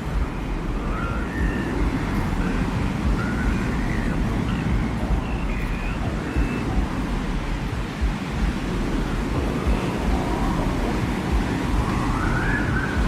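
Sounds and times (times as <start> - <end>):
faint wind whistling: 0.0 - 13.0
low rumbling wind: 0.0 - 13.0
wind hiss: 0.0 - 13.0.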